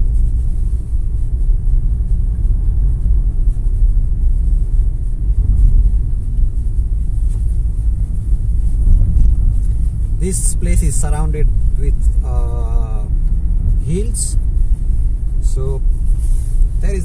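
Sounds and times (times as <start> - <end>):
car interior engine and tyre rumble: 0.0 - 17.0.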